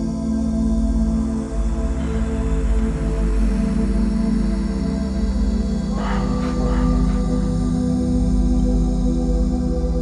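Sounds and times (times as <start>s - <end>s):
meditation music drone: 0.0s - 10.0s.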